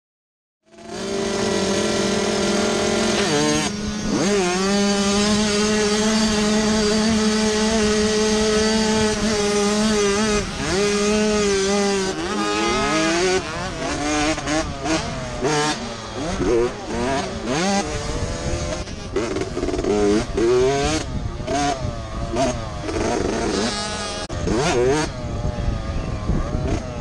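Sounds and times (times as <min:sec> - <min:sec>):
motocross bike engine revving: 0:00.6 - 0:27.0.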